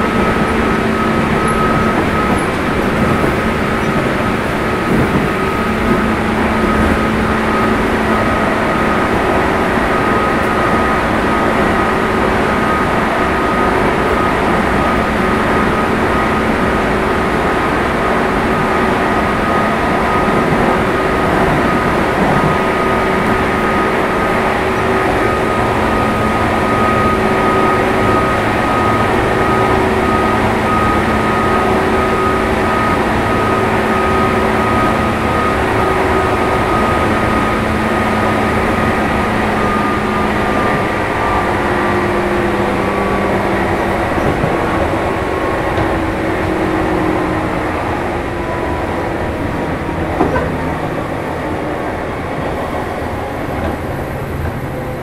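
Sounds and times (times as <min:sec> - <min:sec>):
train traction motors whining: 0:00.0 - 0:55.0
wheels rumbling on rail: 0:00.0 - 0:55.0.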